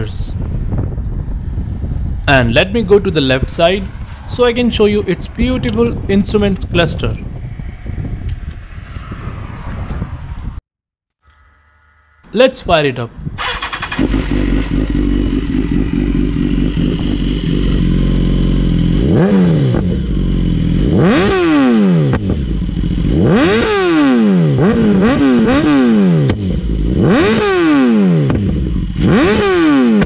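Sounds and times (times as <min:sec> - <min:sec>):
motorcycle engine idling and revving: 0:00.0 - 0:08.9, 0:13.2 - 0:30.0.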